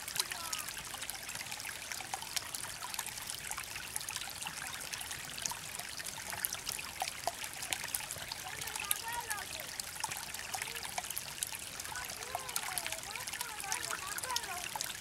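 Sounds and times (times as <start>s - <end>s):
creek trickling over stones: 0.0s - 15.0s
water drips and plinks: 0.0s - 15.0s.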